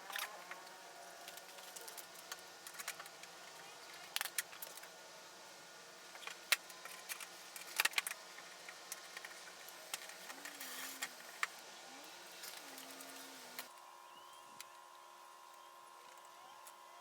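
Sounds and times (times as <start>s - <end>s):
faint wavering hum: 0.0s - 17.0s.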